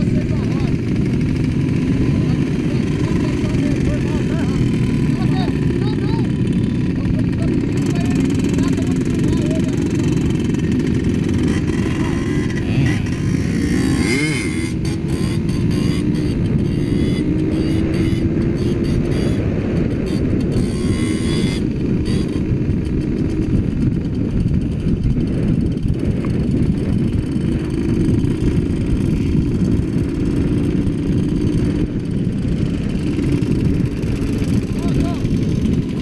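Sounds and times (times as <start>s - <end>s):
motorcycle engine running: 0.0s - 36.0s
wind rumble on microphone: 0.0s - 36.0s.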